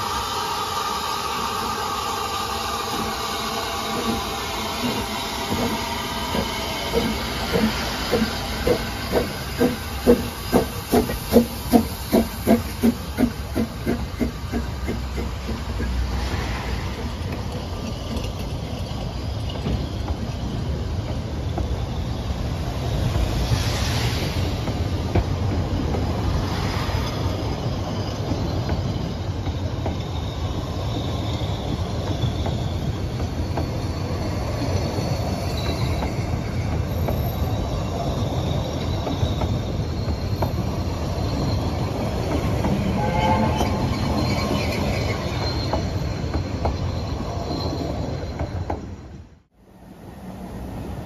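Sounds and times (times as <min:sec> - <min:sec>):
high wheel squeals: 0:00.0 - 0:49.3
wheels rumbling on rails: 0:02.7 - 0:51.0.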